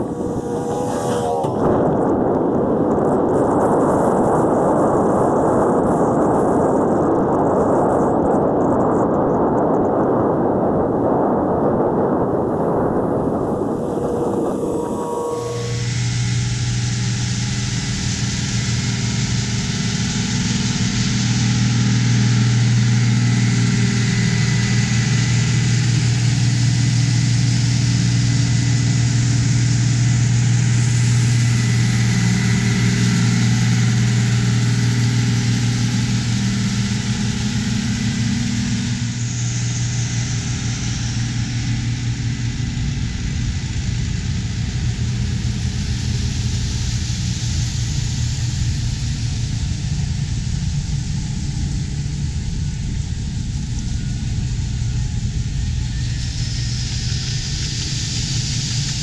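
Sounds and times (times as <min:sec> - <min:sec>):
tractor diesel engines humming: 0:00.0 - 0:06.6, 0:11.9 - 0:59.0.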